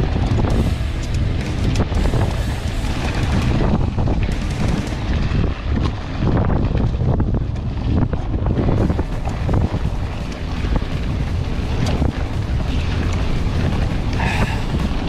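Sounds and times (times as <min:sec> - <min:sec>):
bike rattling and knocking: 0:00.0 - 0:15.0
wind buffeting microphone: 0:00.0 - 0:15.0.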